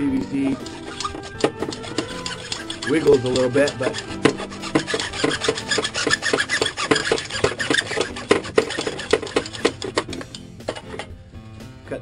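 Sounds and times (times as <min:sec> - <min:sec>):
hacksaw cutting plastic pipe: 0:00.2 - 0:11.1.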